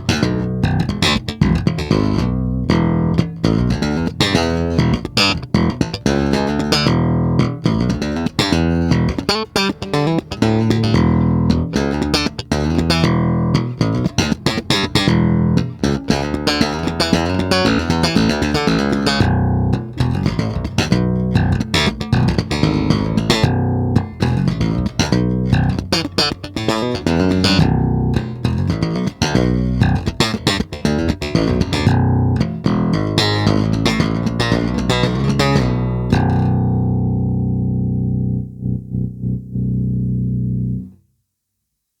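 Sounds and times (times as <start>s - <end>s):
electric bass guitar notes: 0.0s - 41.0s.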